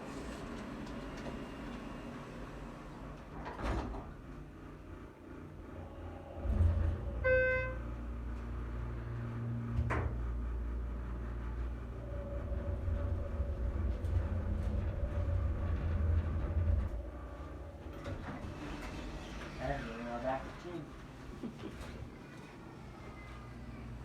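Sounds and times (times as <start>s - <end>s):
elevator car rumbling: 0.0s - 24.0s.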